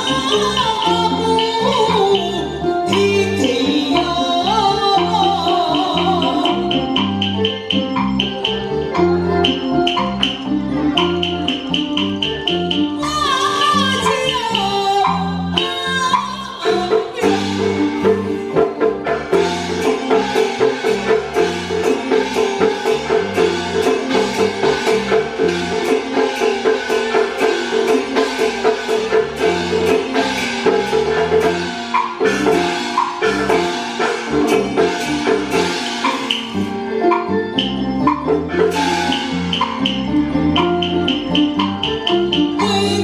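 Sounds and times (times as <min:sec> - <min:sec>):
wood block beat: 0:00.0 - 0:43.0
repeating instrumental melody: 0:04.9 - 0:15.8, 0:16.7 - 0:43.0.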